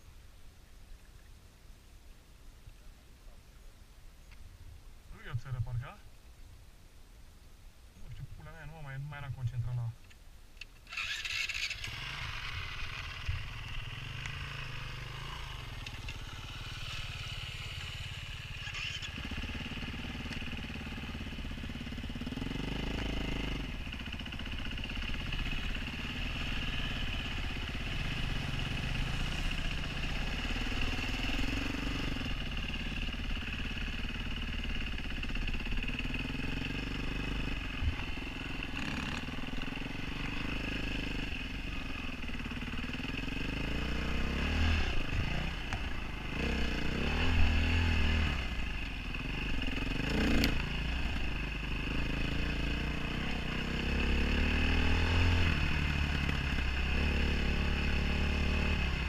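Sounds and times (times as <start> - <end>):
dirt bike engine revving: 10.9 - 59.0.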